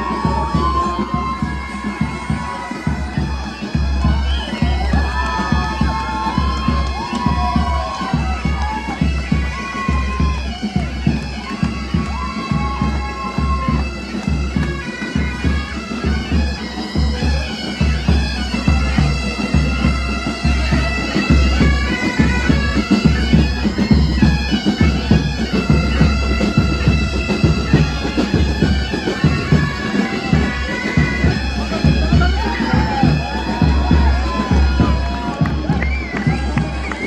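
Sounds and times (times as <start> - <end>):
bagpipes playing a march: 0.0 - 37.0
steady drum beat: 0.0 - 37.0.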